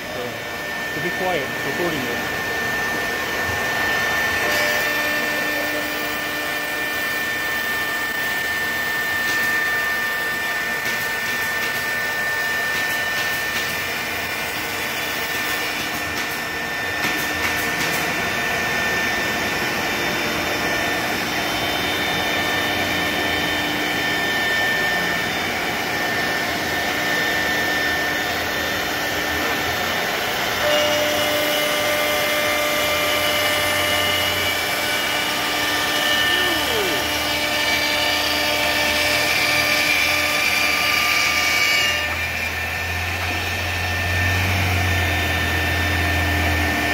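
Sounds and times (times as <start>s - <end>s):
router spindle whining: 0.0s - 46.9s.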